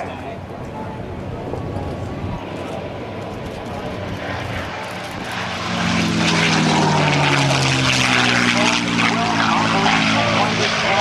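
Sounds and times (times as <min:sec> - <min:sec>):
propeller plane flyby: 0:00.0 - 0:11.0.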